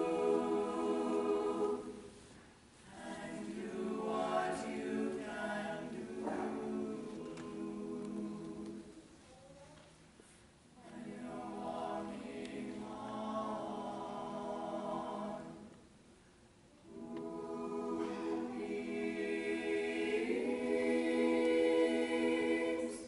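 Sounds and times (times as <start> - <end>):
vocal ensemble singing a cappella: 0.0 - 9.1, 10.8 - 15.9, 16.8 - 23.0.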